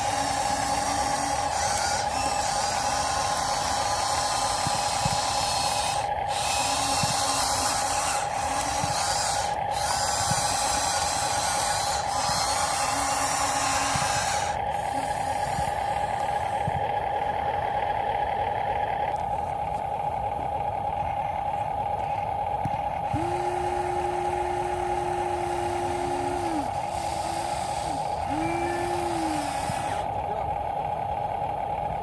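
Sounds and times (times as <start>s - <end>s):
electric whine of model vehicles: 0.0s - 32.0s.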